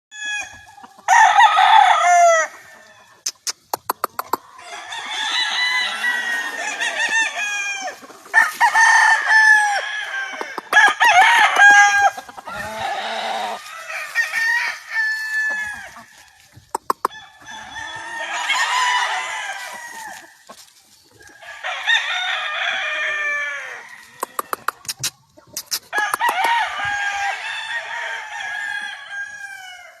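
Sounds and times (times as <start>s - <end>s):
roosters crowing: 0.1s - 3.2s, 4.1s - 24.9s, 25.9s - 30.0s.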